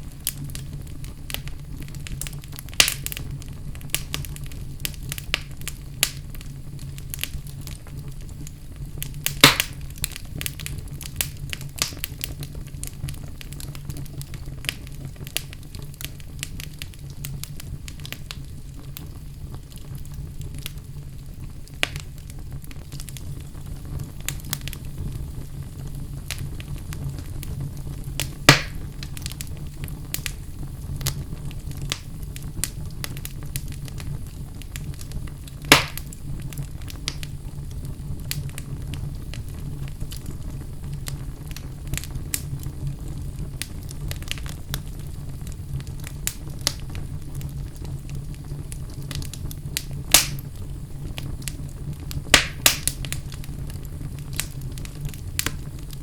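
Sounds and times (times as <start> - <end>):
low rumble of flame: 0.0 - 56.0
wood fire crackling: 0.0 - 56.0.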